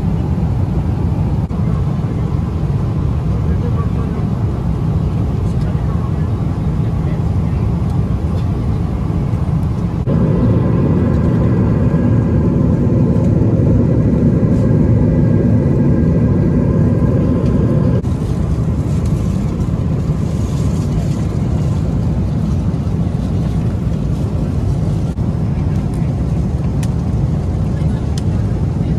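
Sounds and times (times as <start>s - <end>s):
airliner cabin drone: 0.0s - 28.9s.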